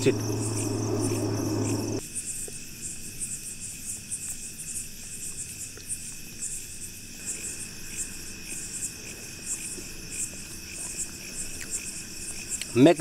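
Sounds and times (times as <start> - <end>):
crickets chirping: 0.0 - 13.0
high insect trill: 0.0 - 13.0.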